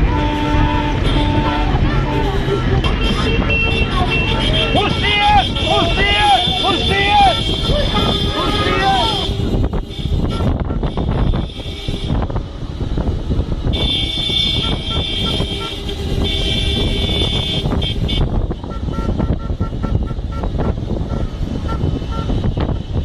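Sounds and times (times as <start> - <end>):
car horn blast: 0.0 - 12.2, 13.7 - 22.6.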